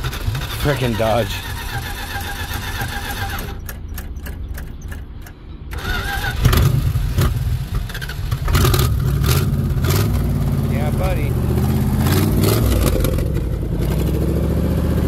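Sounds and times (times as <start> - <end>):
truck engine cranking: 0.0 - 15.0.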